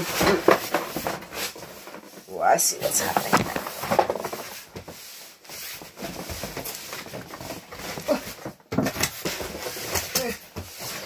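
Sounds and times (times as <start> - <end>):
cardboard boxes scraping: 0.0 - 11.0.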